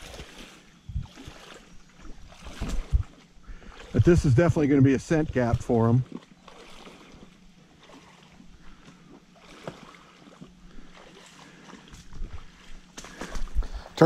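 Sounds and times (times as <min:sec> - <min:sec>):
footsteps wading on rocks: 0:00.0 - 0:13.7
faint water splashing: 0:00.0 - 0:14.0.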